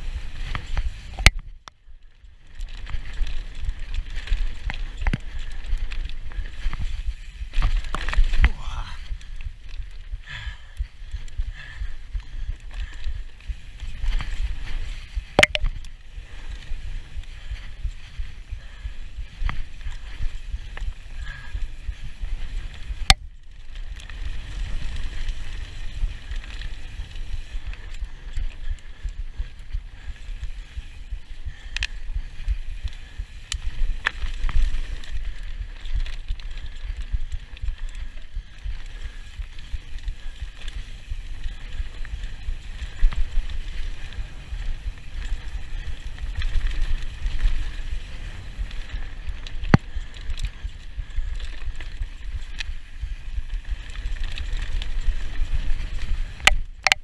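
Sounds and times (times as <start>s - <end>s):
bike rattling over bumps: 0.0s - 57.0s
trail chatter: 0.0s - 57.0s
wind rumble: 0.0s - 57.0s.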